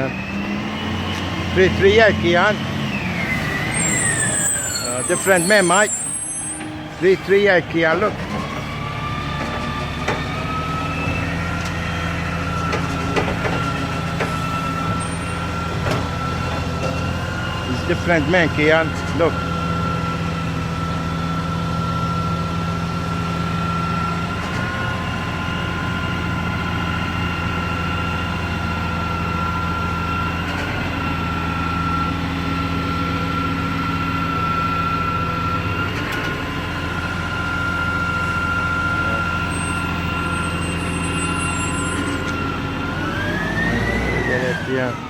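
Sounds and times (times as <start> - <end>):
truck diesel engine droning: 0.0 - 45.0.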